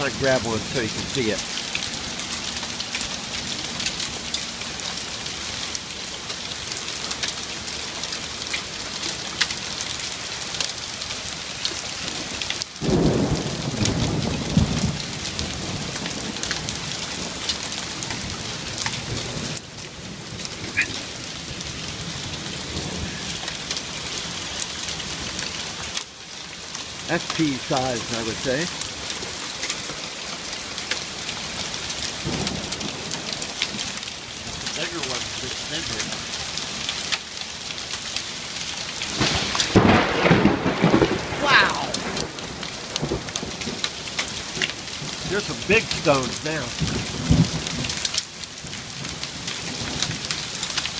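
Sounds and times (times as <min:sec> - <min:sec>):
heavy rain on wooden deck: 0:00.0 - 0:50.9
hailstones ticking on deck: 0:05.7 - 0:50.9.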